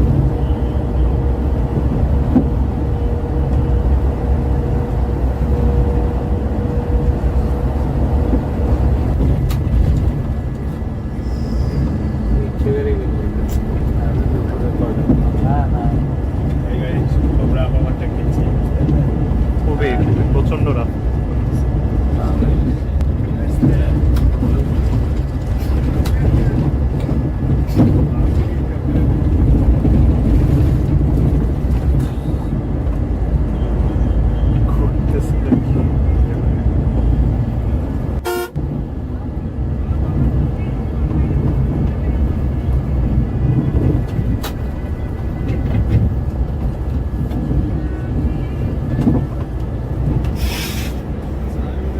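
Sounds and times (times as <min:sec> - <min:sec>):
coach engine and road rumble: 0:00.0 - 0:51.9.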